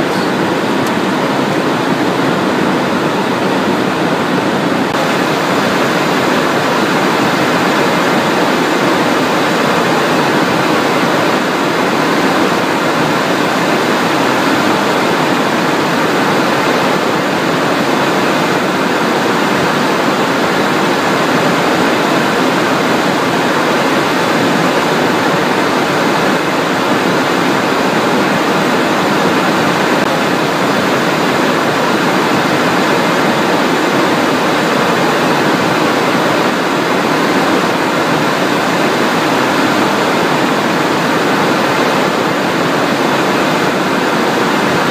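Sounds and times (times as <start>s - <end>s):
faint high whine: 0.0s - 44.9s
jet engines humming: 0.0s - 44.9s.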